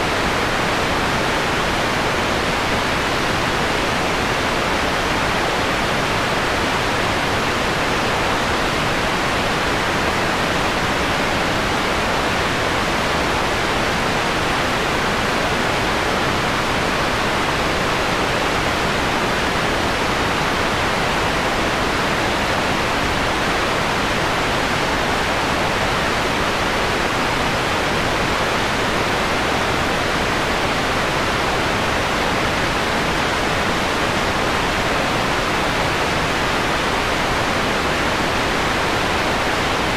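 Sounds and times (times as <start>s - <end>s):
steady mellow noise hiss: 0.0s - 39.9s.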